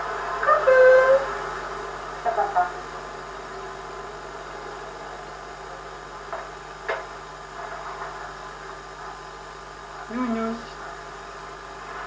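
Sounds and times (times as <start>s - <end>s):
tape hiss and hum: 0.0s - 12.0s.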